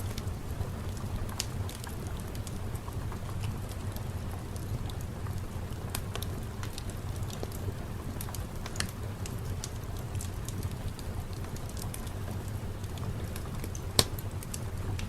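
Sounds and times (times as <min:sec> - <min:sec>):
sharp crackles and pops: 0:00.0 - 0:15.0
steady rain: 0:00.0 - 0:15.0.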